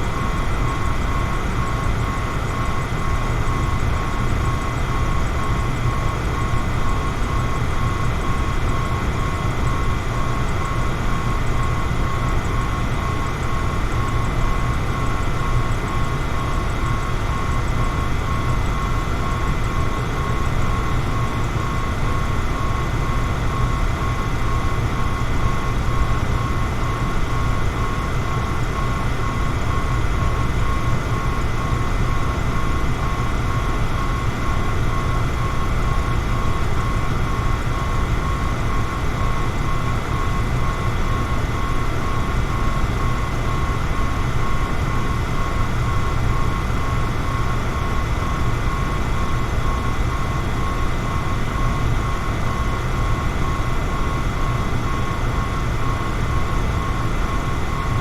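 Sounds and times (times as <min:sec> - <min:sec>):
fan motor whine: 0:00.0 - 0:58.0.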